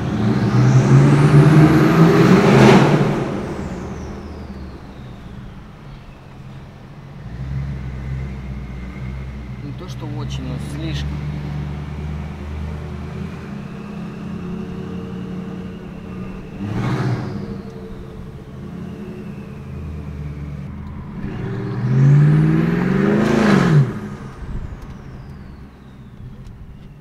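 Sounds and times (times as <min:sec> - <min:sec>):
car engine droning: 0:00.0 - 0:27.0
car engine revving: 0:00.0 - 0:27.0.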